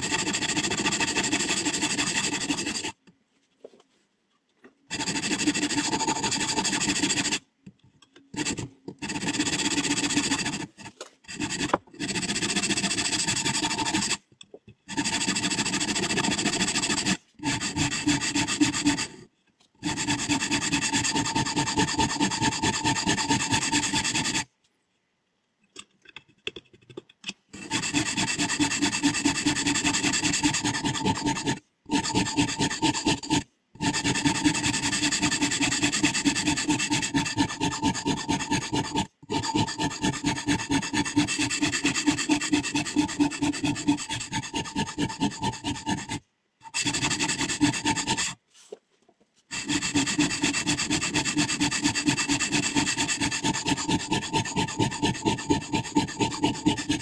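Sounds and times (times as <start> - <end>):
sharpening stone rasping on steel: 0.0 - 3.0, 4.9 - 7.4, 8.3 - 14.2, 14.9 - 24.5, 27.5 - 48.4, 49.5 - 57.0.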